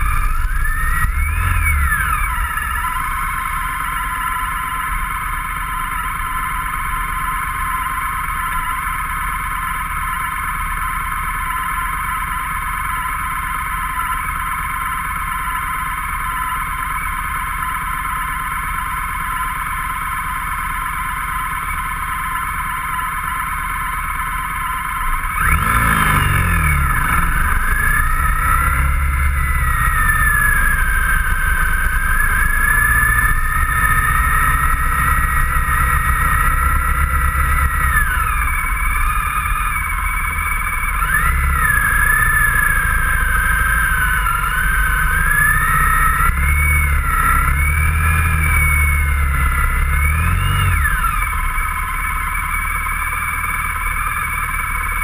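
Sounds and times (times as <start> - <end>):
motorcycle engine idling and accelerating: 0.0 - 55.0.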